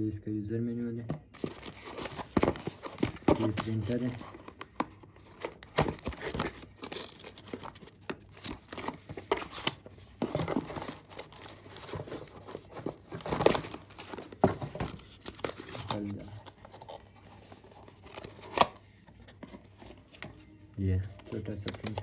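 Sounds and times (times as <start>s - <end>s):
cardboard box crinkling and rustling: 1.3s - 20.4s.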